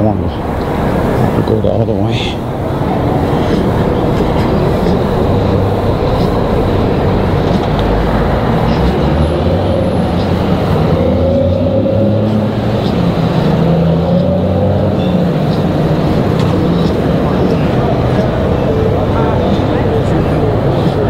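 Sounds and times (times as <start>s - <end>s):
car engines and tyres on road: 0.0s - 21.0s
low engine hum: 0.0s - 21.0s.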